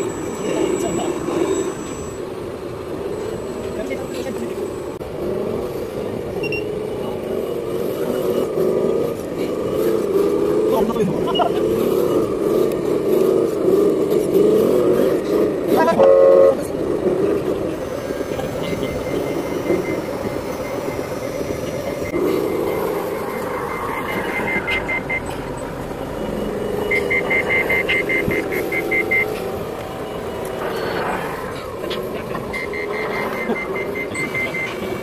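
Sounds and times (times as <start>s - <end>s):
engine-like drone: 0.0s - 35.0s
reversing alarm beeping: 0.0s - 35.0s.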